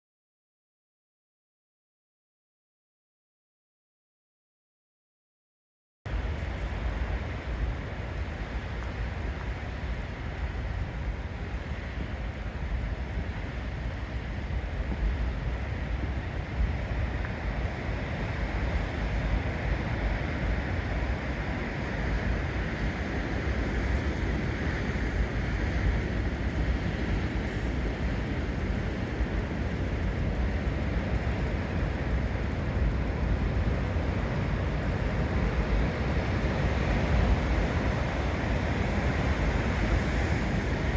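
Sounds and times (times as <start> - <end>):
surf against rocky shore: 6.1 - 40.9
wind buffeting microphone: 6.1 - 40.9.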